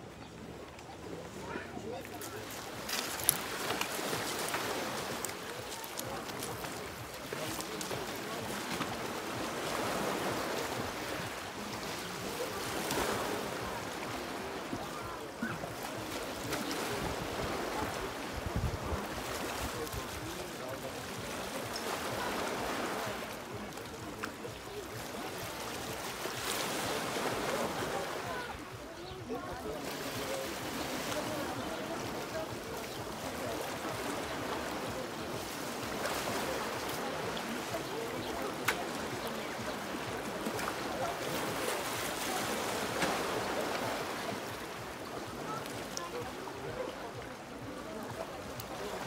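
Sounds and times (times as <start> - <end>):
waves breaking on pebble beach: 2.0 - 28.7, 29.3 - 49.0.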